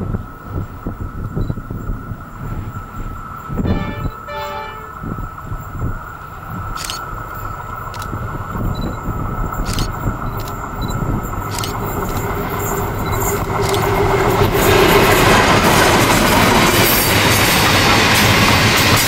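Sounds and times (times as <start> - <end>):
diesel locomotive passing: 0.0 - 19.0
train wheels clattering on rails: 1.2 - 19.0.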